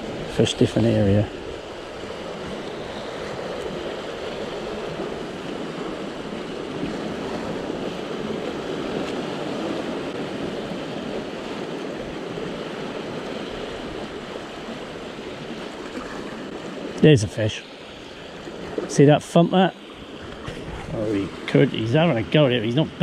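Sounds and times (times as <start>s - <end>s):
surf washing around rocks: 0.0s - 23.0s.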